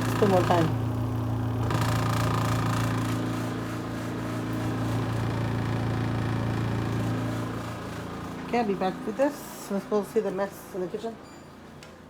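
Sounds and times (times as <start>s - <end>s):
spin-dryer motor humming: 0.0s - 10.0s.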